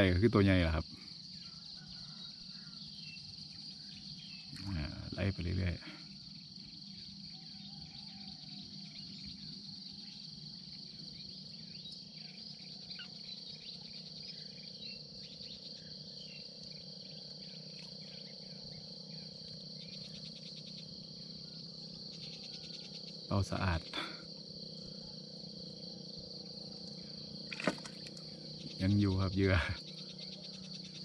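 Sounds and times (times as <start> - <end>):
crickets and insects chorus: 0.0 - 31.0
low steady hum: 0.0 - 31.0.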